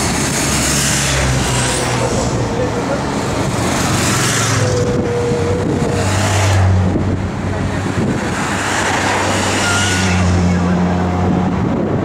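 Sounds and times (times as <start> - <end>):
motorcycle passing: 0.0 - 11.8
race cars passing: 0.0 - 12.0
tyres and air rushing: 0.0 - 12.0.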